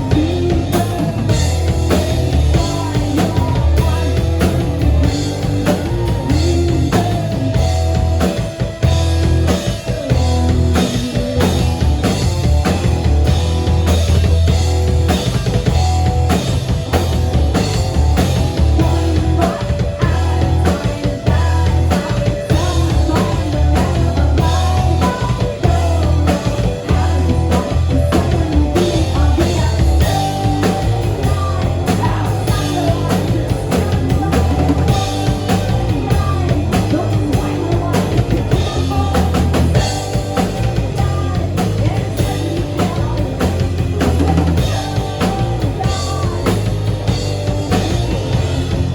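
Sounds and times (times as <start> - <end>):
drum kit beat: 0.0 - 48.9
guitar: 0.0 - 48.9
heavy bass line: 0.0 - 48.9
live rock band: 0.0 - 48.9.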